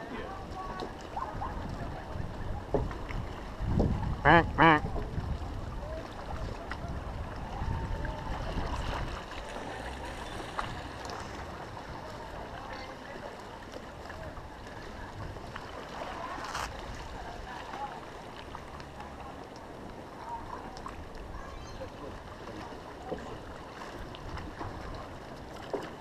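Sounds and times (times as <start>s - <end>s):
sea waves washing: 0.0s - 26.0s.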